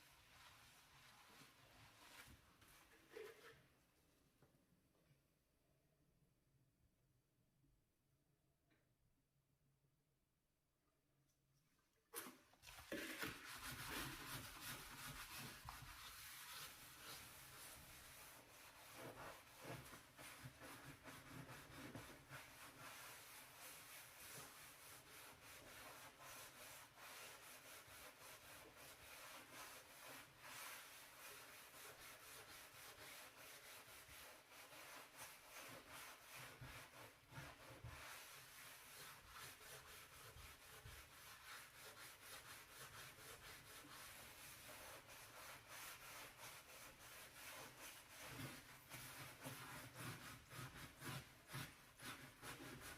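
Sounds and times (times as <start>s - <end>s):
brush scrubbing stove surface: 0.0s - 3.6s, 12.2s - 52.9s.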